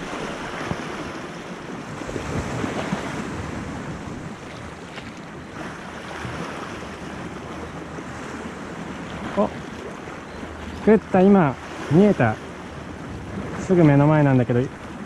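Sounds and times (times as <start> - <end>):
waves splashing against rocks: 0.0 - 15.0
wind on microphone: 0.0 - 15.0.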